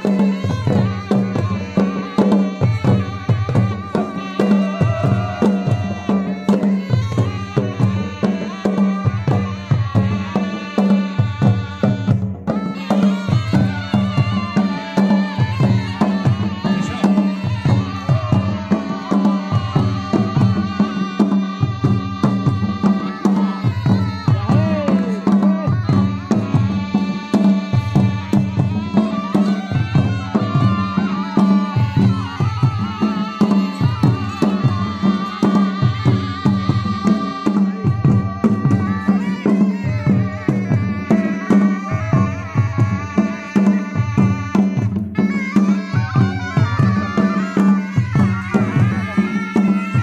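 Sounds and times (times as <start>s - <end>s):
folk melody instrument: 0.0s - 50.0s
steady drum beat: 0.0s - 50.0s.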